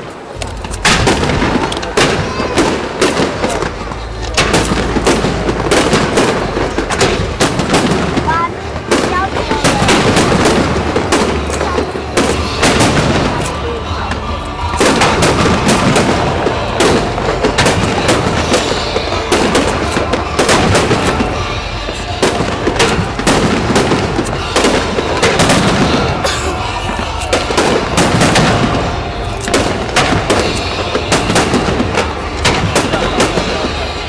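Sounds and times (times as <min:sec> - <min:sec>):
fireworks bursting: 0:00.0 - 0:34.0.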